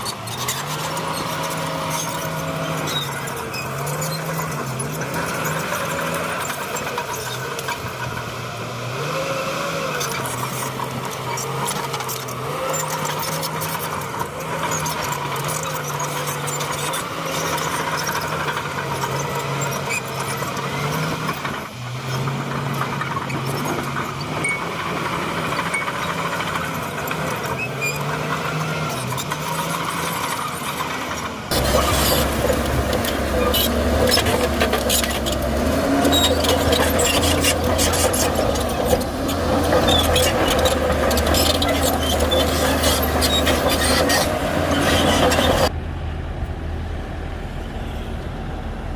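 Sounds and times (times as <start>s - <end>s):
steel tracks squeaking and clanking: 0.0s - 8.3s, 9.6s - 45.7s
bulldozer diesel engine under load: 0.0s - 48.9s.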